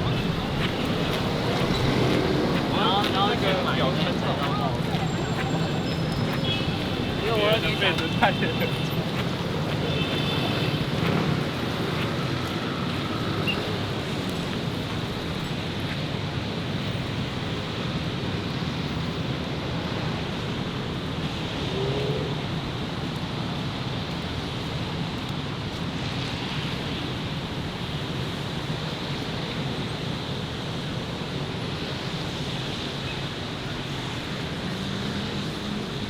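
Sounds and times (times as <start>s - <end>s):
road traffic hum: 0.0s - 36.0s.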